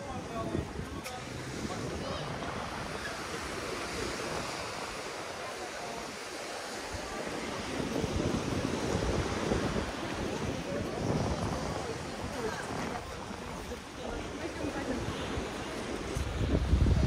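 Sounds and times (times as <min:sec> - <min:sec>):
wind buffeting microphone: 0:00.0 - 0:05.9, 0:06.9 - 0:17.0
sea surf washing ashore: 0:00.0 - 0:17.0.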